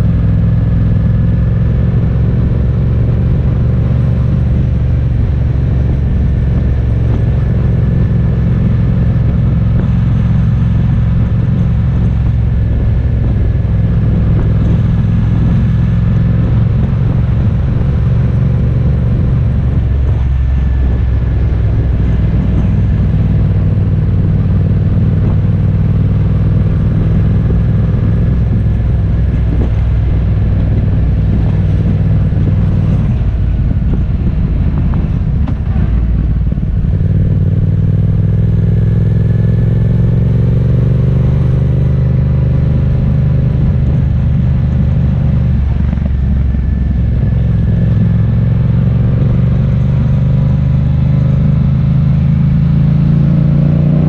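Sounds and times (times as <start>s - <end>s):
road noise: 0.0s - 54.0s
vehicle engine running: 0.0s - 54.0s.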